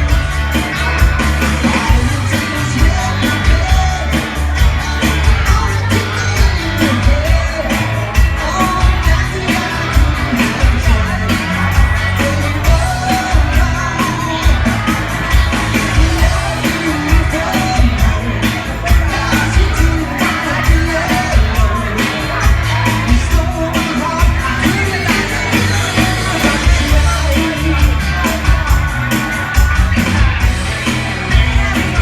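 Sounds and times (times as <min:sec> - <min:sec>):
drum beat with cymbals: 0:00.0 - 0:32.0
person singing: 0:00.0 - 0:32.0
rock band playing live: 0:00.0 - 0:32.0.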